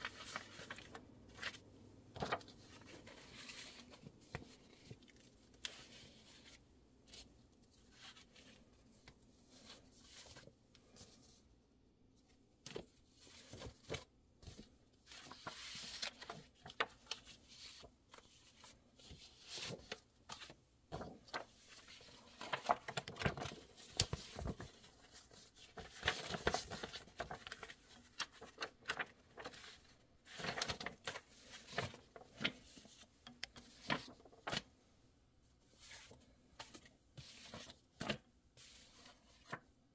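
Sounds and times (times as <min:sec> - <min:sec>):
paper rustling and crackling: 0:00.0 - 0:11.4, 0:12.6 - 0:34.8, 0:35.7 - 0:39.8.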